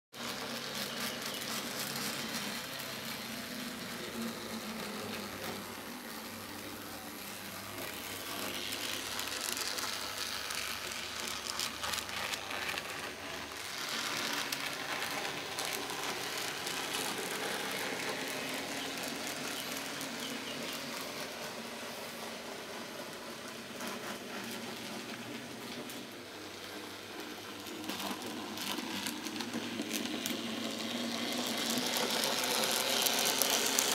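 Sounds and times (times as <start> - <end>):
model train motors whirring: 0.2 - 33.9
wheels clicking on track: 0.2 - 33.9.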